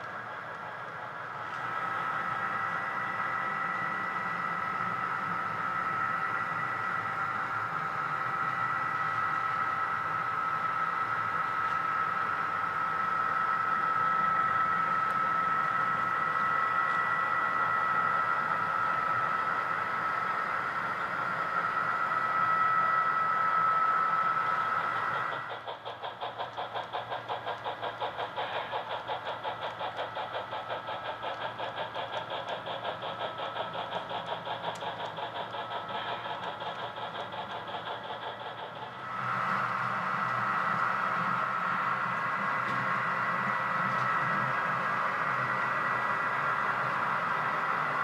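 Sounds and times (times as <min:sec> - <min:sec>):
model locomotive engine hum: 0:00.0 - 0:48.0
steam locomotive chuffing: 0:00.0 - 0:48.0.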